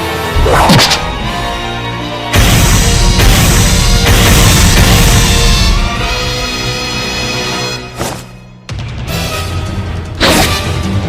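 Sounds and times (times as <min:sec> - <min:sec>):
dramatic music: 0:00.0 - 0:11.0.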